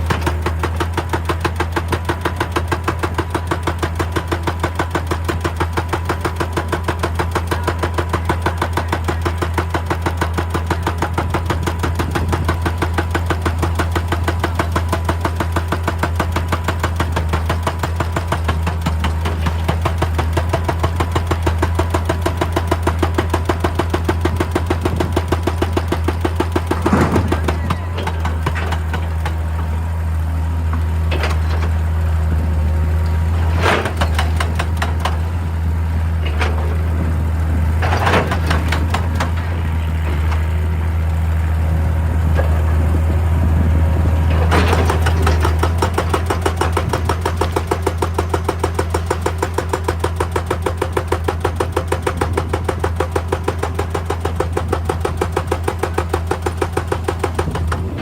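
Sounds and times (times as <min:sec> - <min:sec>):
hydraulic breaker hammering rock: 0:00.0 - 0:41.3, 0:41.9 - 0:58.0
excavator diesel engine running: 0:00.0 - 0:58.0.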